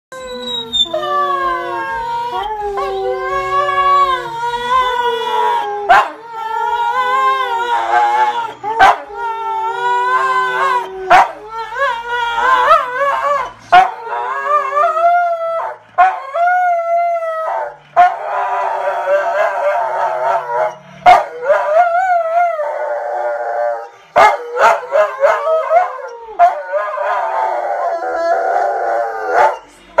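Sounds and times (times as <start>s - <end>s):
dog howling: 0.1s - 30.0s.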